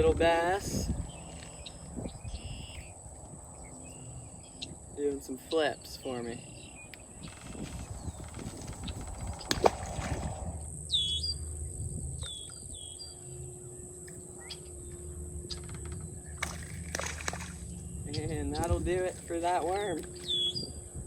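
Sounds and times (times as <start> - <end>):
low outdoor rumble: 0.0 - 21.0
bird chirps: 1.0 - 4.8, 5.4 - 9.6, 10.9 - 20.8.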